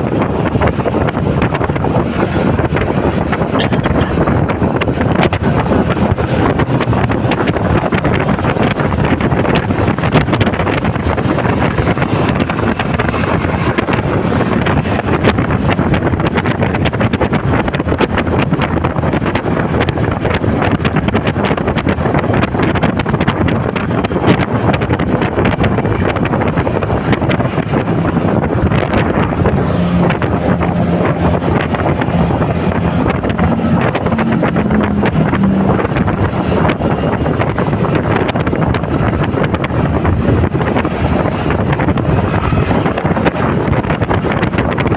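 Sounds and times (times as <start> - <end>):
motorcycle engine: 0.0 - 44.9
road noise: 0.0 - 44.9
wind buffeting microphone: 0.0 - 44.9.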